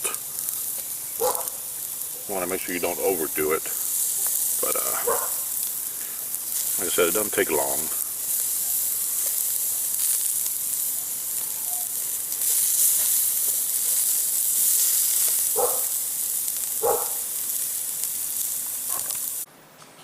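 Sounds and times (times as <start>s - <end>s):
vegetables sizzling on a grill: 0.0s - 19.5s.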